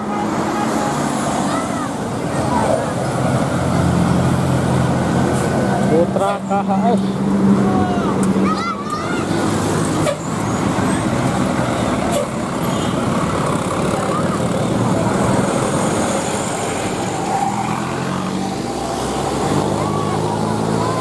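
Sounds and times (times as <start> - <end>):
bus engine driving past: 0.0 - 21.0
road and traffic noise: 0.0 - 21.0.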